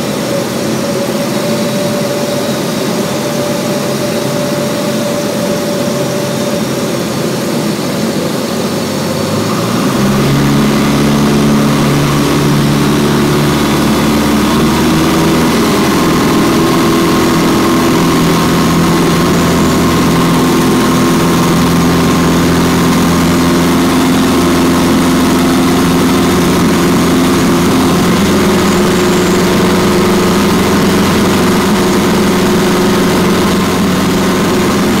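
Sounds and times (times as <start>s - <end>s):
air noise: 0.0s - 35.0s
propeller airplane engine in cabin: 0.0s - 35.0s.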